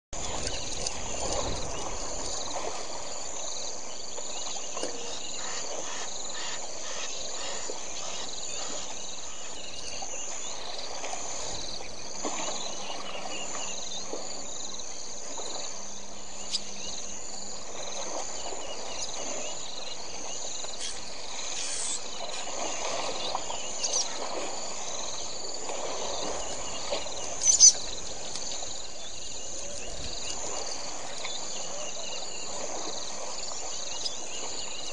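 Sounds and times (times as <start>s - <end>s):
elephants sloshing in mud: 0.2s - 15.9s, 17.3s - 34.9s
insects chirping: 0.2s - 34.9s.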